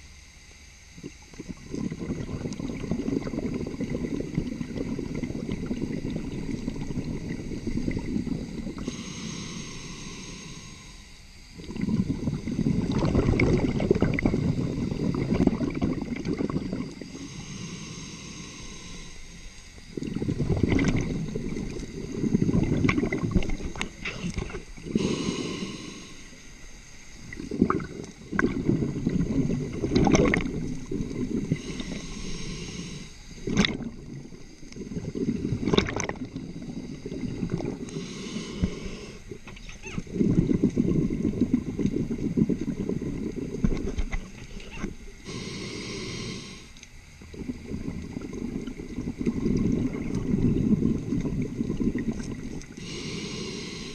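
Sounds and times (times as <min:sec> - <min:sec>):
exhaled air bubbling underwater: 0:00.0 - 0:53.9
regulator inhale hiss: 0:03.5 - 0:39.5, 0:44.4 - 0:49.6, 0:51.5 - 0:53.9.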